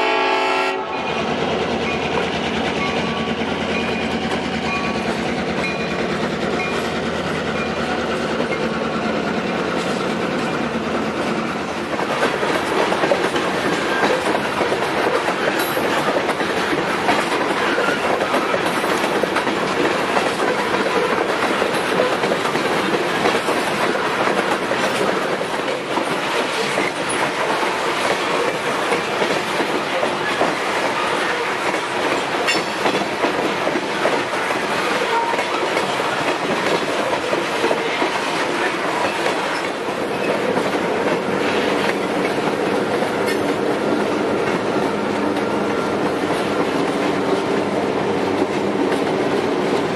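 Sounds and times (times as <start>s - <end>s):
train wheels rumbling on rails: 0.0s - 49.9s
clickety-clack over rail joints: 1.2s - 49.9s.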